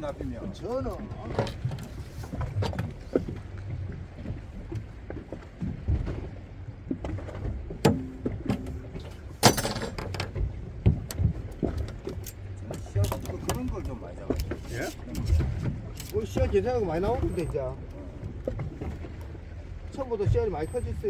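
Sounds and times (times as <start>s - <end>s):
boat engine low rumble: 0.0s - 21.0s.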